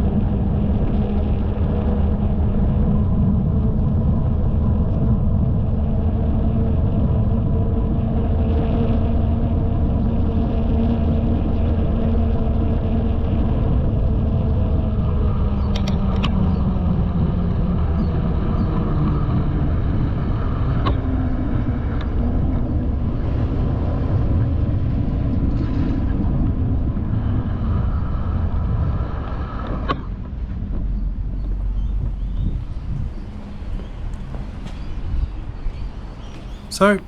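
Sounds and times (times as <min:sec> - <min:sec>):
wind and tyre rumble: 0:00.0 - 0:36.7.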